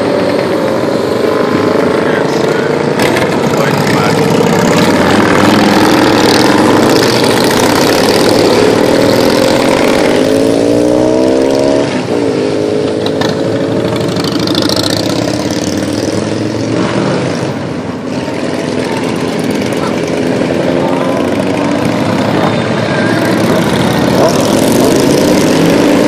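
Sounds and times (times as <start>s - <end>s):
motorcycle engines riding past: 0.0s - 26.0s.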